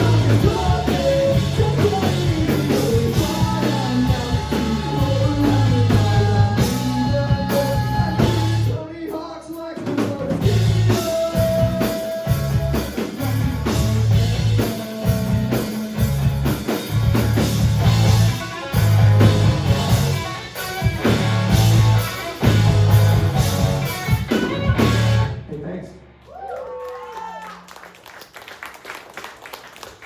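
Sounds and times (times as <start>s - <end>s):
live rock band: 0.0s - 25.5s.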